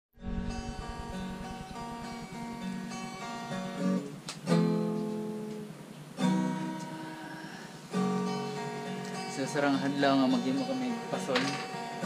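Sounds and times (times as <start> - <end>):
acoustic guitar strumming: 0.2 - 12.0.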